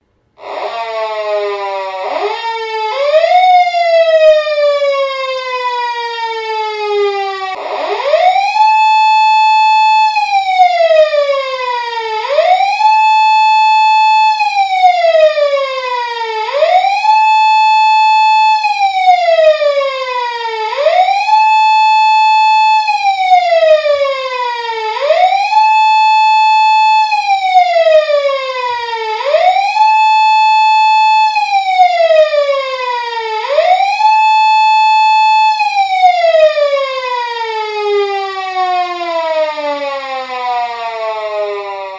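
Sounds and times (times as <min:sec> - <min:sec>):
police siren wailing: 0:00.4 - 0:41.9.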